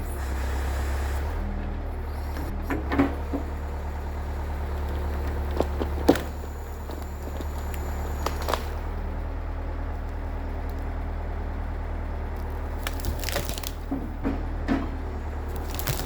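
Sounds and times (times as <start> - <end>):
diesel engine running: 0.0 - 16.0
crunching cracking sounds: 3.0 - 16.0.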